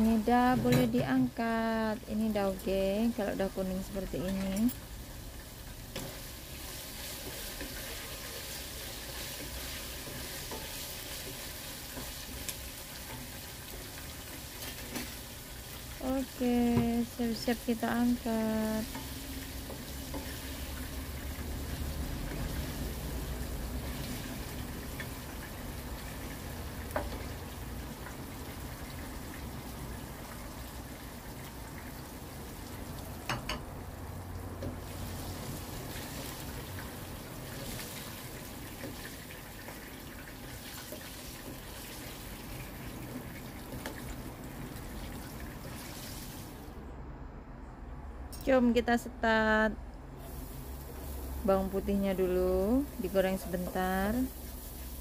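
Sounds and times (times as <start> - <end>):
chicken sizzling in hot oil: 0.0 - 46.7, 50.2 - 55.0.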